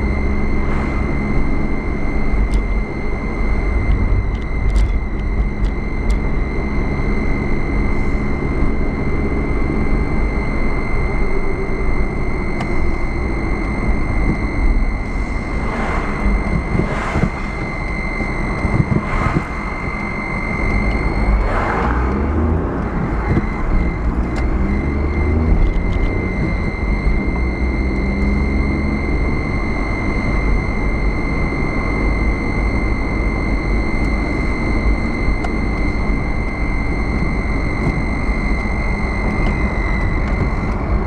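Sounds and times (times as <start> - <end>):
car engine and road rumble: 0.0 - 41.0
high-pitched whine: 0.0 - 41.0.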